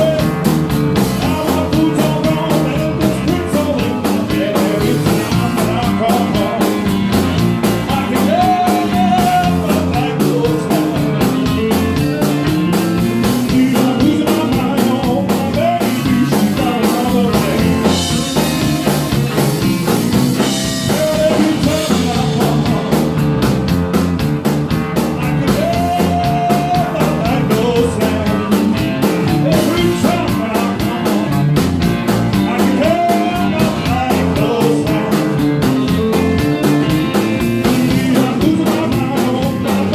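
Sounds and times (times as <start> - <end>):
blues-rock band playing: 0.0 - 39.9
steady drum beat: 0.0 - 39.9.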